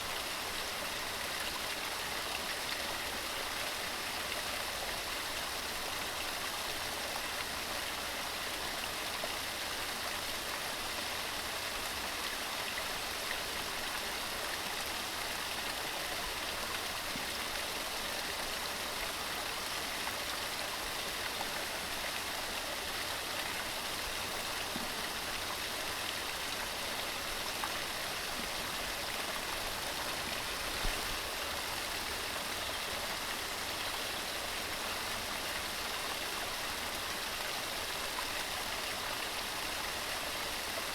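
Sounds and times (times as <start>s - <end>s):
water cascading over rocks: 0.1s - 40.9s.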